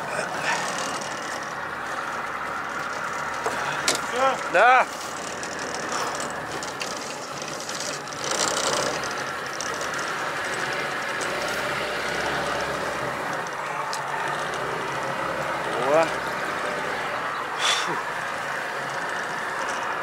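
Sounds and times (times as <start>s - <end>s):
boat engine clattering: 0.0s - 20.0s
water noise: 0.0s - 20.0s.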